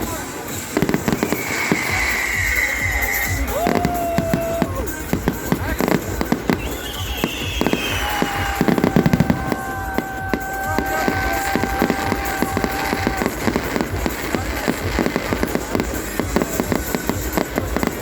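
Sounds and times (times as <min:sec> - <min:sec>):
fireworks bangs and crackles: 0:00.0 - 0:18.0
steady whistling tone: 0:01.0 - 0:15.5.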